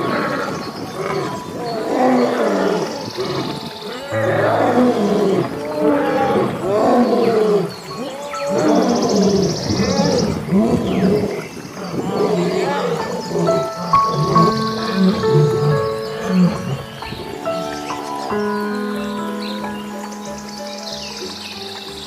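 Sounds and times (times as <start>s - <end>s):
background music: 0.0s - 11.4s, 12.0s - 22.0s
wild animal roaring: 0.0s - 18.4s.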